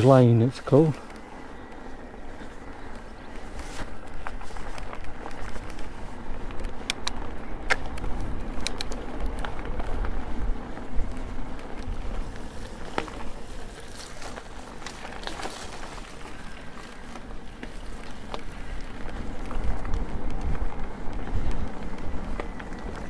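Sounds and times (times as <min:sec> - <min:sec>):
bike clicks and rattles: 0:00.0 - 0:23.0.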